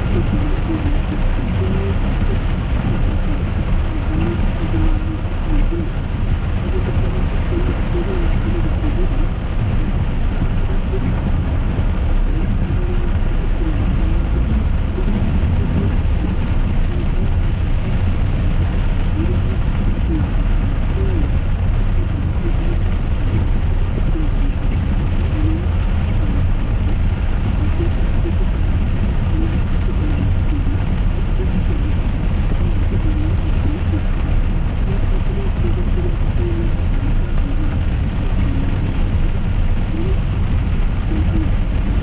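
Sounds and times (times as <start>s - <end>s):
car engine and tyre noise: 0.0s - 42.0s.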